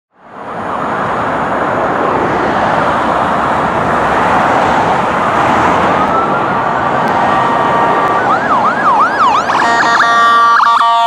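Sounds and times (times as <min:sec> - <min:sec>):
highway traffic rush: 0:00.1 - 0:11.0.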